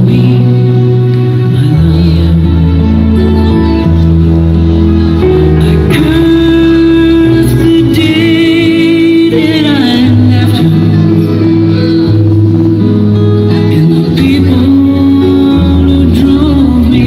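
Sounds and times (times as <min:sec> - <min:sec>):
ballroom dance music with singer: 0:00.0 - 0:17.0.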